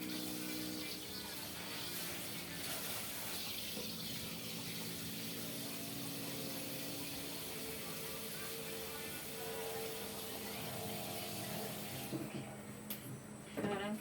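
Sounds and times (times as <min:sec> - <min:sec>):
water running from a tap: 0:00.0 - 0:12.3.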